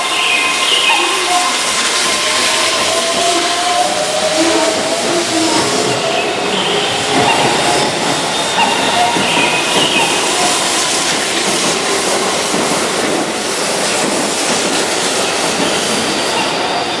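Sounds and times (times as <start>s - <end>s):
train wheels rolling on rail: 0.0s - 17.0s.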